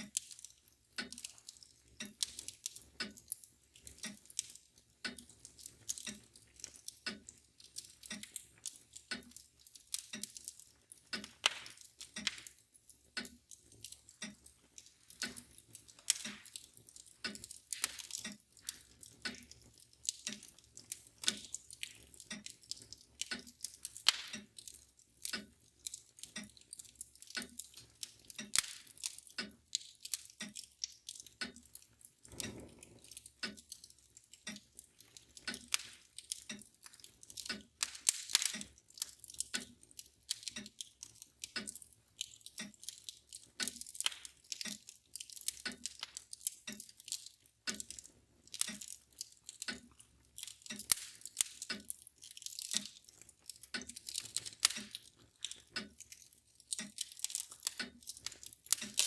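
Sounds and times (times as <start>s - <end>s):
mantel clock ticking: 0.0s - 59.0s
wood fire crackling: 0.0s - 59.0s.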